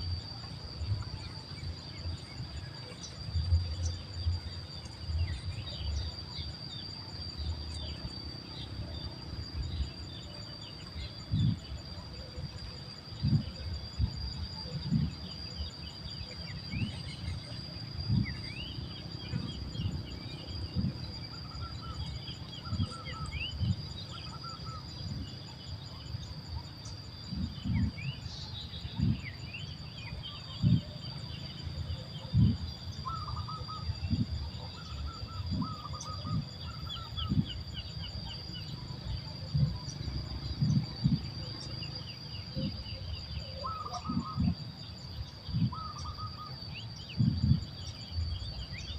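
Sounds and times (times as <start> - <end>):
high insect drone: 0.0 - 48.9
low repeated bird calls: 0.0 - 48.9
small birds chirping: 0.0 - 48.9.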